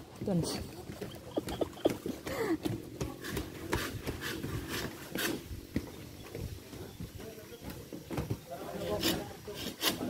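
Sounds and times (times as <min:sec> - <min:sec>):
footsteps on bamboo slats: 0:00.0 - 0:10.0.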